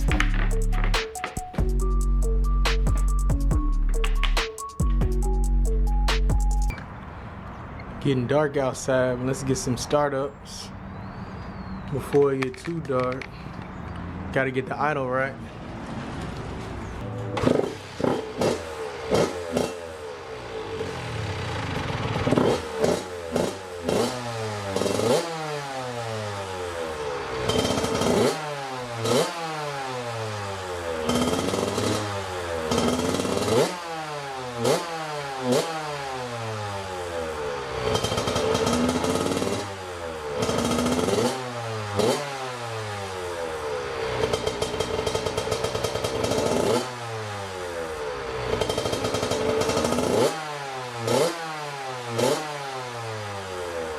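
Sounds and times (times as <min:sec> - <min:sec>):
dirt bike engine idling and revving: 0:00.0 - 0:06.8, 0:16.9 - 0:53.9.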